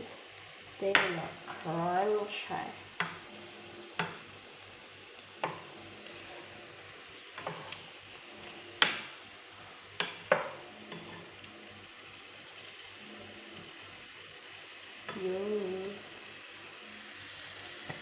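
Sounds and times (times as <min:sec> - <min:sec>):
sausages sizzling in a frying pan: 0:00.0 - 0:18.0.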